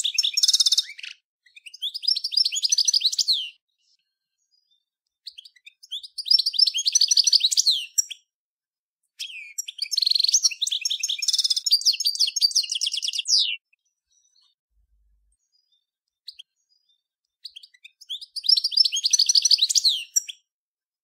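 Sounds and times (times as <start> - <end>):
goldfinch singing: 0.0 - 3.6, 4.5 - 8.2, 9.2 - 14.6, 15.3 - 20.4.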